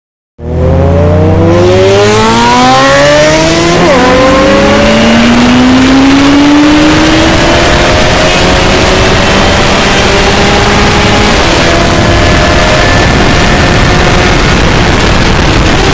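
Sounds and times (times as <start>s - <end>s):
motorcycle engine accelerating: 0.4s - 15.9s.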